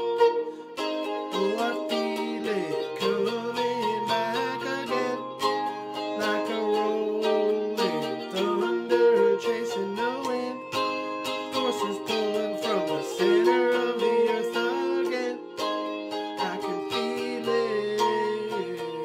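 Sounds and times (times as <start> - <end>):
electric guitar chords: 0.0 - 19.0.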